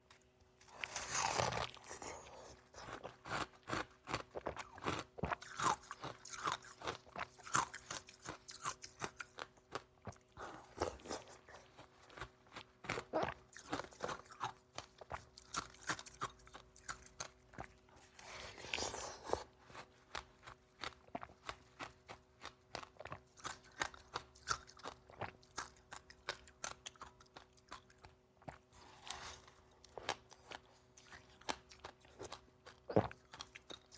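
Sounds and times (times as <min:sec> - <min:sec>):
crunching and chewing ice: 0:00.1 - 0:33.9.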